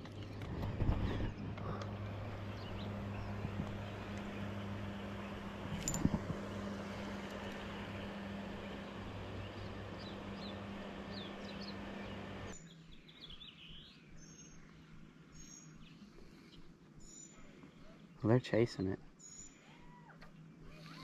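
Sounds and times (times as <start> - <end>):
birds chirping: 0.0 - 21.0
low hum and hiss: 0.0 - 21.0.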